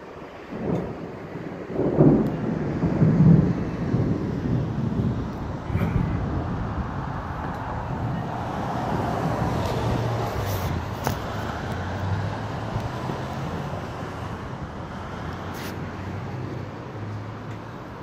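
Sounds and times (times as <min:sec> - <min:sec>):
road traffic noise: 0:00.0 - 0:18.0
car passing: 0:00.6 - 0:18.0.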